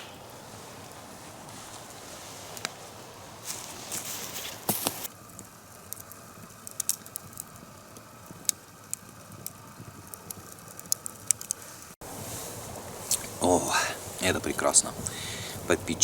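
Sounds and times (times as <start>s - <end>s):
campfire crackling and popping: 0.0s - 16.0s
fire hiss: 0.0s - 16.0s.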